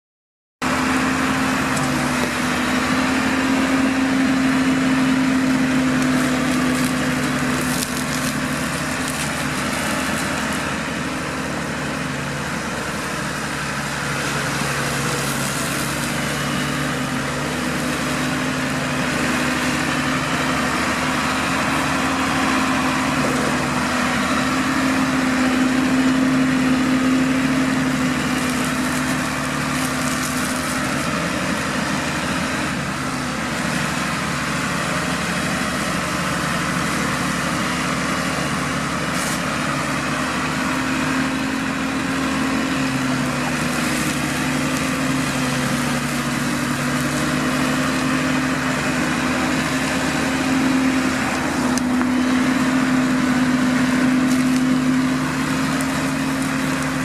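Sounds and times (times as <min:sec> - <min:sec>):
tractor diesel engine humming: 0:00.6 - 0:57.0
hedge trimmer cutting head whirring: 0:01.7 - 0:57.0.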